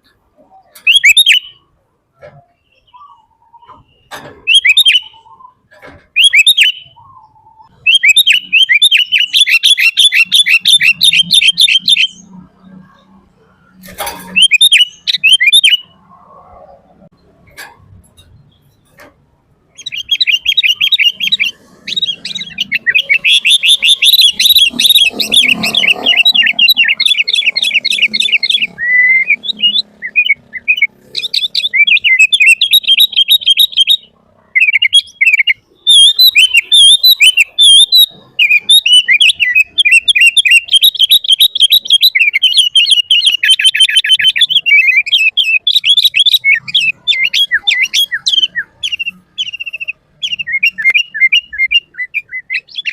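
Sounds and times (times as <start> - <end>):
bird singing chattering whistles: 0.5 - 1.6, 2.6 - 12.4, 14.2 - 16.0, 19.7 - 52.9.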